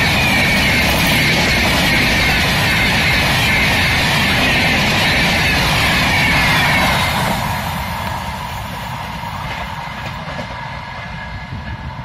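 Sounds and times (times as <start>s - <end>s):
train rumble: 0.0s - 12.0s
train wheels on rails: 0.0s - 12.0s.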